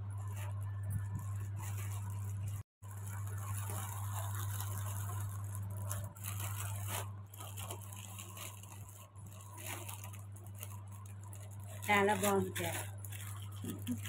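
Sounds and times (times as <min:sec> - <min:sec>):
steady low hum: 0:00.0 - 0:14.0
plastic wrapping crinkling: 0:00.1 - 0:14.0
plastic mailer tearing: 0:00.2 - 0:14.0.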